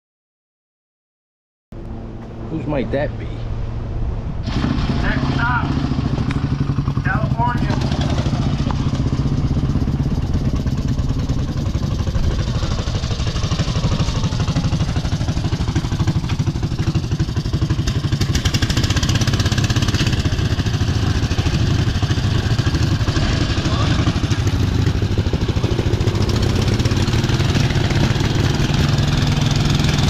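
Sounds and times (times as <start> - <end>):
motorcycle engine running: 4.4 - 30.0.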